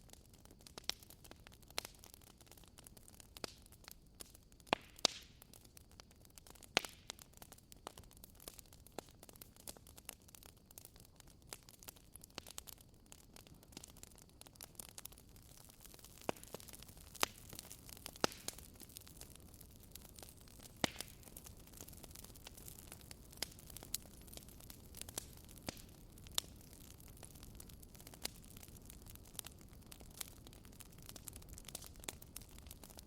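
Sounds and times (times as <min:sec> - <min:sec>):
low steady hiss: 0:00.0 - 0:33.0
wood fire crackling and popping: 0:00.0 - 0:33.0.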